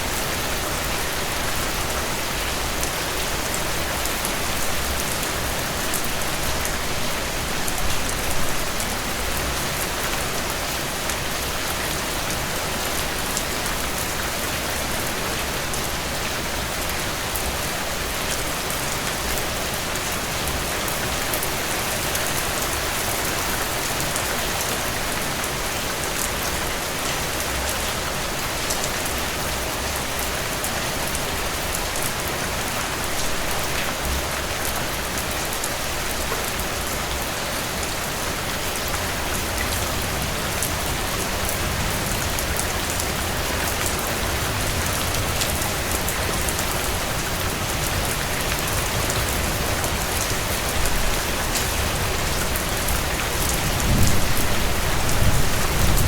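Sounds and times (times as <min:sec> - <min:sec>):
heavy rain on a porch: 0:00.0 - 0:56.0.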